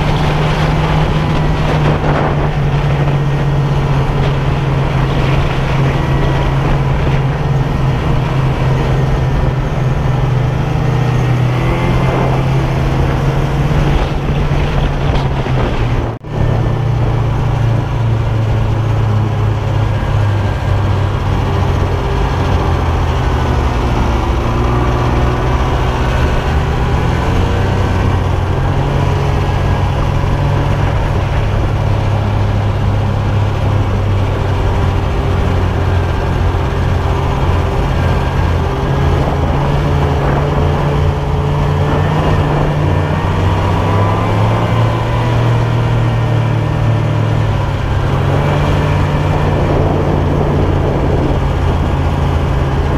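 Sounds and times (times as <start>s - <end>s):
snowmobile engine running: 0.0s - 52.9s.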